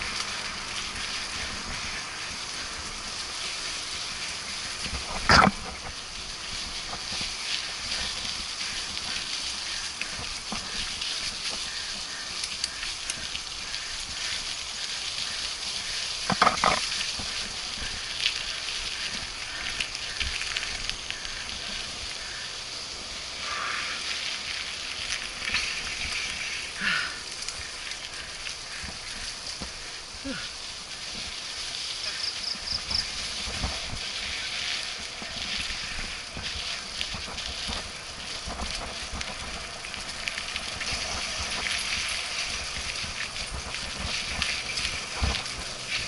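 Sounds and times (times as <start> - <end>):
bike clicks and rattles: 0.0 - 23.3, 24.0 - 46.0
bike tyres hissing on wet dirt: 0.0 - 46.0.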